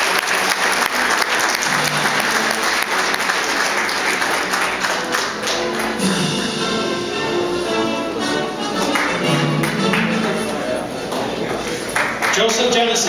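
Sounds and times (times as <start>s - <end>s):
audience applauding: 0.0s - 7.5s, 8.6s - 13.0s
faint music: 0.1s - 13.0s.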